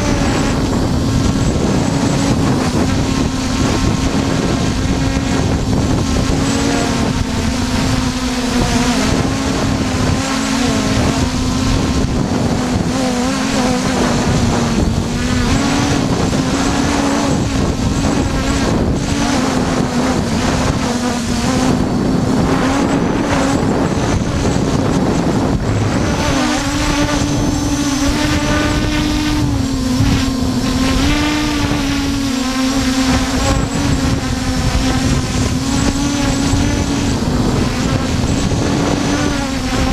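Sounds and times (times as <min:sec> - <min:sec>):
drone propellers buzzing: 0:00.0 - 0:39.9
wind rushing over microphone: 0:00.0 - 0:39.9.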